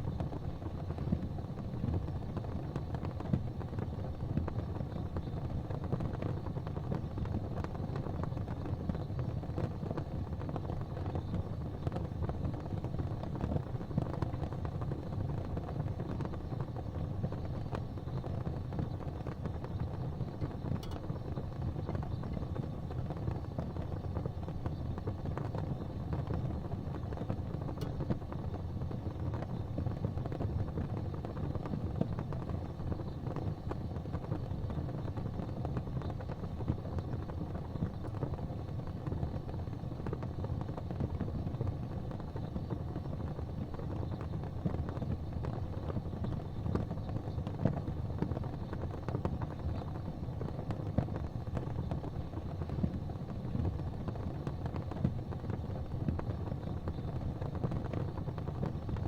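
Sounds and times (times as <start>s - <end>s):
gas flames rumbling and hissing: 0.0s - 59.0s.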